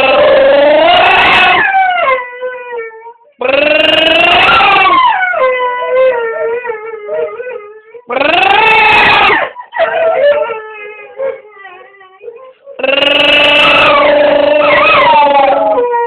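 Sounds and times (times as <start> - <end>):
dog howling: 0.0 - 16.0.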